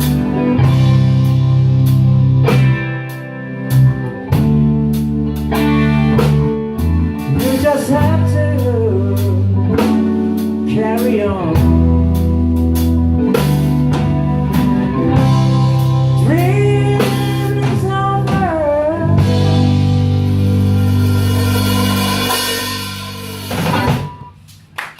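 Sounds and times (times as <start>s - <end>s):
bending lead guitar line: 0.0s - 24.4s
rock band playing ballad: 0.0s - 24.4s.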